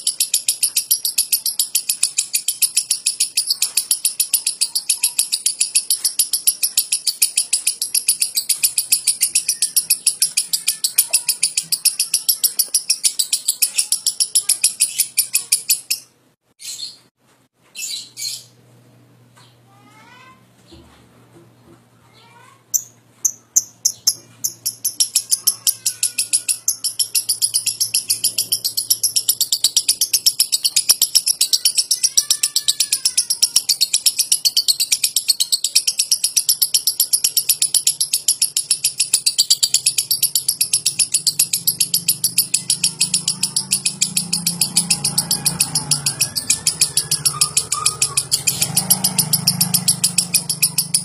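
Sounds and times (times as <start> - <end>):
lovebird clicking chirps: 0.0 - 16.0, 22.8 - 51.0.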